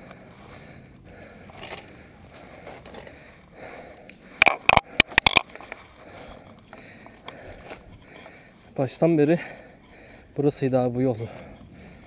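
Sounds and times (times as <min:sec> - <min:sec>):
bike rolling on dirt trail: 0:00.0 - 0:12.0.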